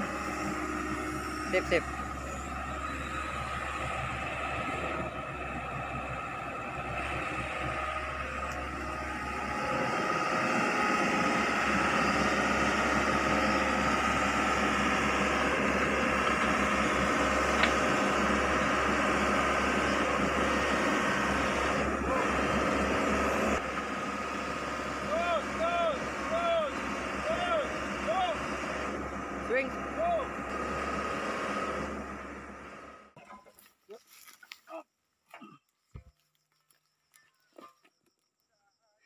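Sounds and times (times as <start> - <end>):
excavator diesel engine running: 0.0 - 33.2.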